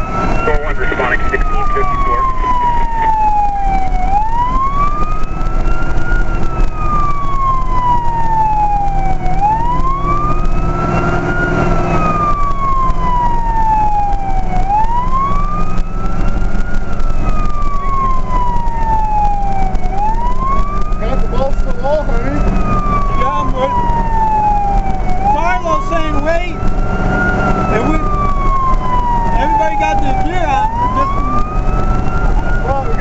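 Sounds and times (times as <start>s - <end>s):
fire truck siren wailing: 0.0s - 33.0s
truck engine drone: 0.0s - 33.0s.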